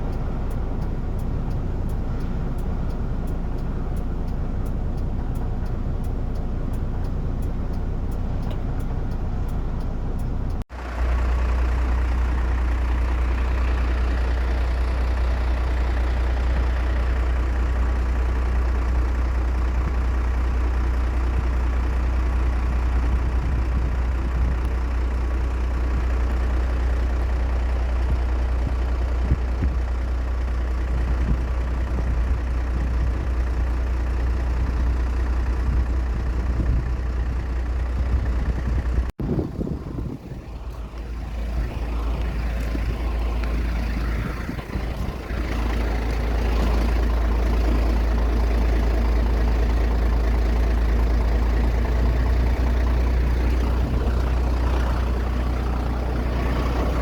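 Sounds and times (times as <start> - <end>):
aircraft engine rumble: 0.0 - 57.0.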